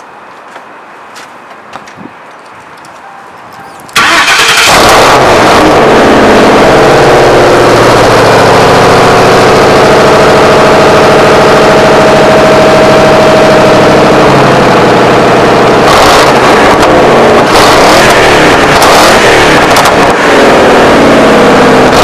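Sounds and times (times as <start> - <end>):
car engine starting and idling: 3.3 - 22.0.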